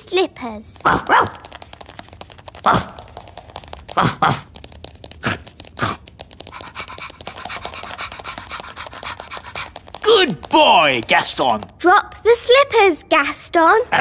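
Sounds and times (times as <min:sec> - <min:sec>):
clicky patter of tiny legs: 0:00.6 - 0:12.4.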